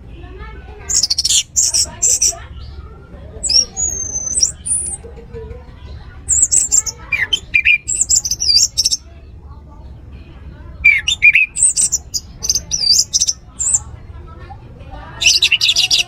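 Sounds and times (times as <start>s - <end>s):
thrush singing: 0.8s - 14.3s, 15.0s - 16.0s.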